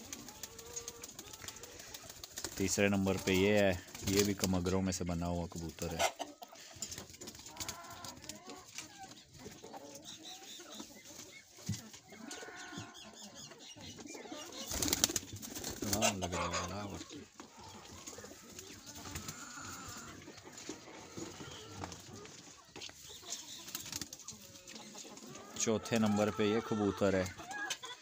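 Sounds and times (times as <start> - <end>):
pigeons cooing: 0.0 - 2.6, 5.8 - 28.0.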